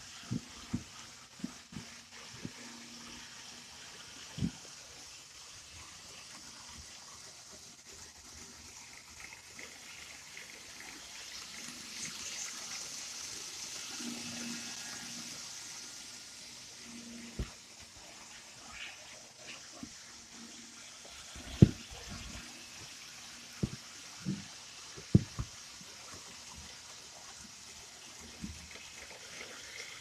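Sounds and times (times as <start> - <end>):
model train whirring on track: 0.0 - 30.0.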